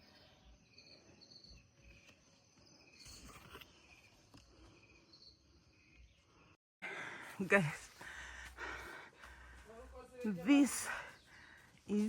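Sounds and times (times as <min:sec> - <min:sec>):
faint insects chirping: 0:00.0 - 0:12.0.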